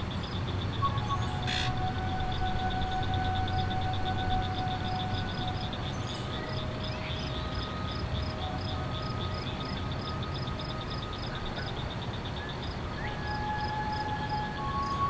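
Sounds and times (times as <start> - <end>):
distant horn or siren: 0.0 - 15.0
insects chirping: 0.0 - 15.0.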